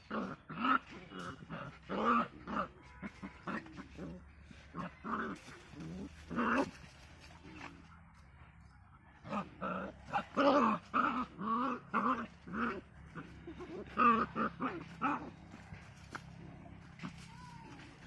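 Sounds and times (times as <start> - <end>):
puppies growling and yapping: 0.0 - 7.9, 9.2 - 18.0.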